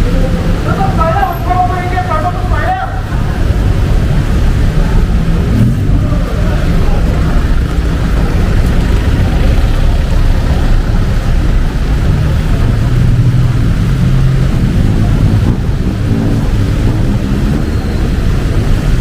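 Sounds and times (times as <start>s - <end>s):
rumble of street traffic: 0.0s - 19.0s
vehicle engine hum: 0.0s - 19.0s.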